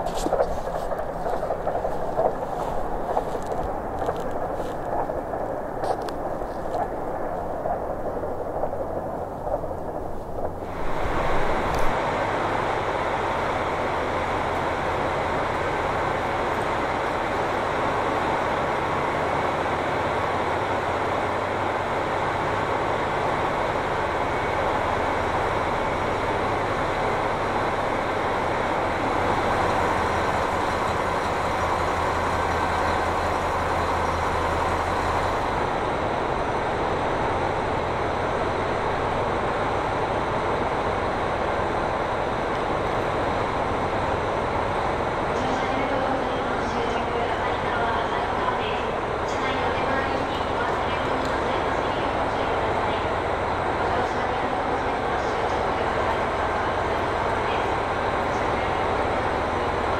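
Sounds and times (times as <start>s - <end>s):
diesel engines idling: 0.0s - 59.9s
station noise: 0.0s - 59.9s.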